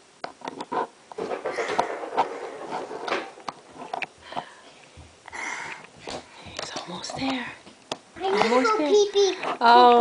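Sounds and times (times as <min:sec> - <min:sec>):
handling noise: 0:00.2 - 0:08.5.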